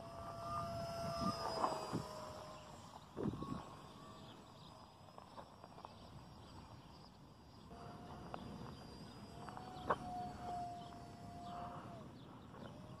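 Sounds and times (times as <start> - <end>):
model plane motor whine: 0.0 - 13.0.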